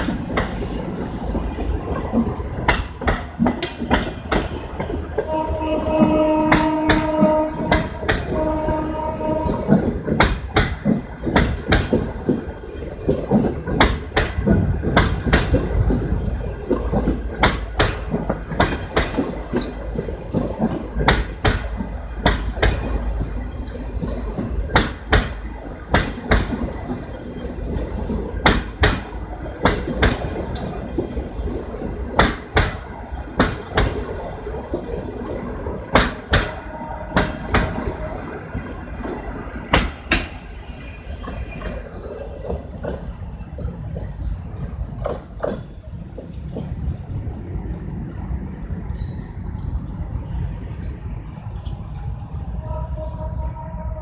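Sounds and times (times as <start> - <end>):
train wheels clacking over rail joints: 0.0 - 47.4.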